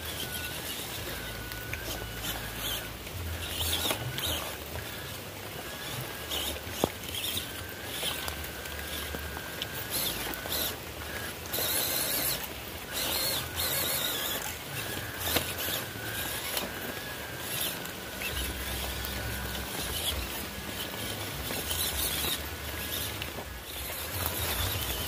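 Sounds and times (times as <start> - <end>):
electric motor whine: 0.0 - 25.0
tyres crunching on gravel: 0.0 - 25.0.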